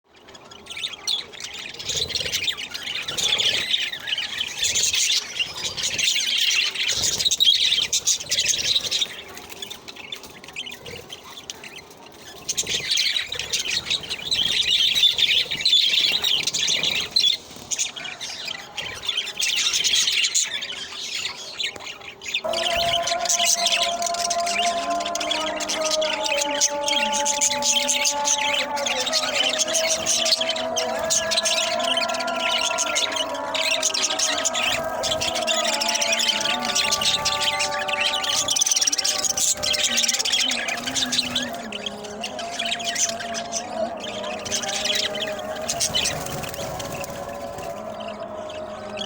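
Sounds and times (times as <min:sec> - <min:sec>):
budgerigars chirping: 0:00.1 - 0:49.0.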